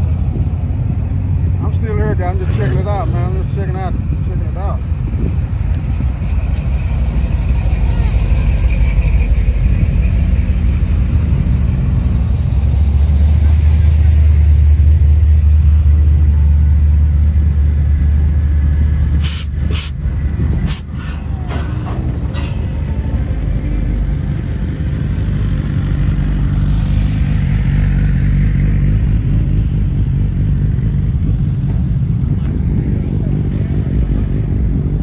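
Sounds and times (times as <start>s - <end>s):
car engine rumbling: 0.0s - 35.0s.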